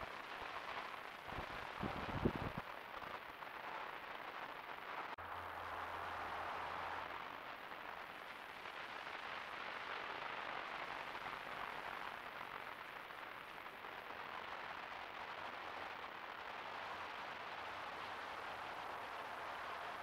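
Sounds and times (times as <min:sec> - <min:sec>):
microphone hiss: 0:00.0 - 0:20.0.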